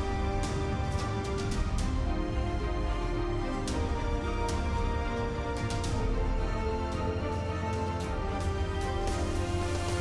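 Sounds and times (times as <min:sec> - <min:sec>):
background music with bass: 0:00.0 - 0:10.0.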